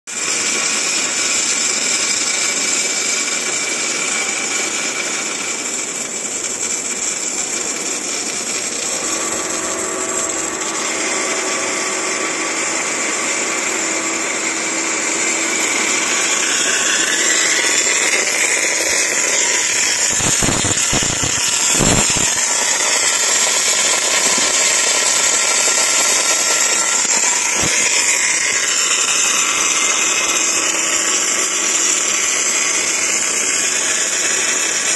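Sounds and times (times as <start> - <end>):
welding arc hissing: 0.1 - 34.9.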